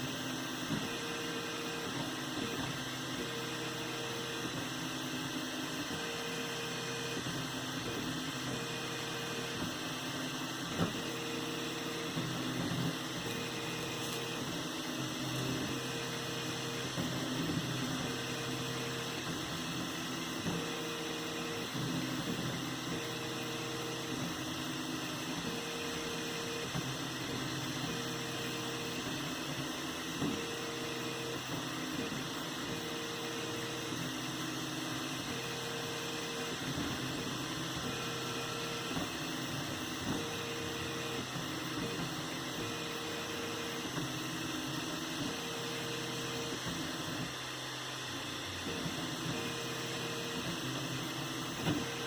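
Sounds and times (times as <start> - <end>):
printer motors and fans humming: 0.0 - 52.0.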